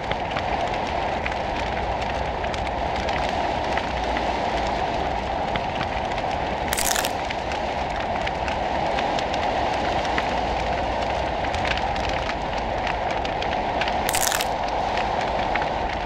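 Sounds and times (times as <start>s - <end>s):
noisy texture with crackling clicks: 0.0s - 16.0s.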